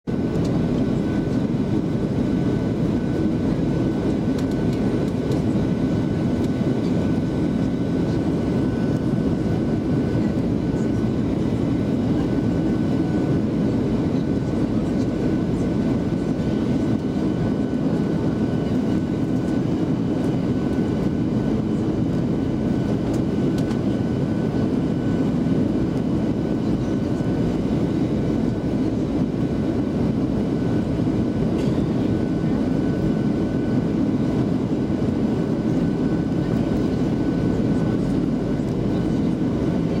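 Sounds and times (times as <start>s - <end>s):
airplane cabin roar: 0.1s - 40.0s.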